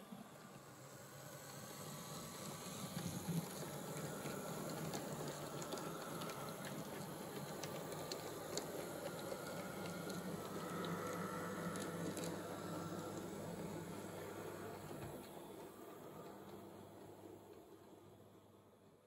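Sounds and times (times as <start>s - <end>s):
model train electric motor hum: 0.0s - 18.8s.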